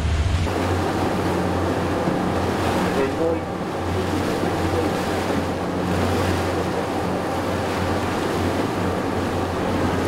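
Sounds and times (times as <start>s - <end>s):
motorboat engine drone: 0.0s - 10.0s
rushing water: 0.0s - 10.0s.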